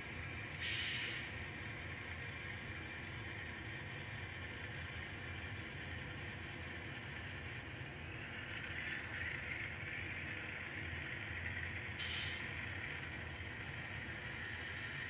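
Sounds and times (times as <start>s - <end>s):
model train motor hum and hiss: 0.1s - 15.0s.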